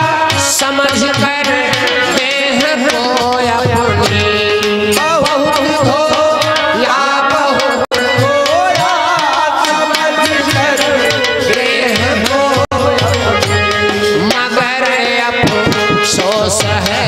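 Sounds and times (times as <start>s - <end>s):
man singing devotional song: 0.0s - 17.0s
tabla: 0.0s - 17.0s.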